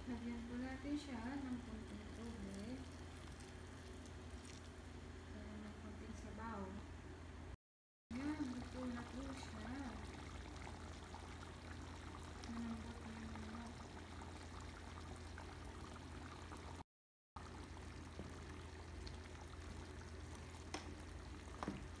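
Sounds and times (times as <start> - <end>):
stew bubbling in a pot: 0.4 - 5.3, 8.1 - 16.8, 17.4 - 22.0.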